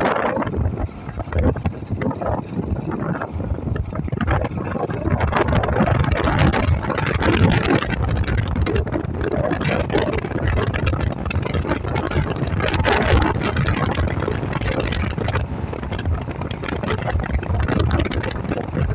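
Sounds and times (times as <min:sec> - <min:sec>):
motorcycle engine running: 0:00.0 - 0:18.9
wind buffeting microphone: 0:00.0 - 0:18.9.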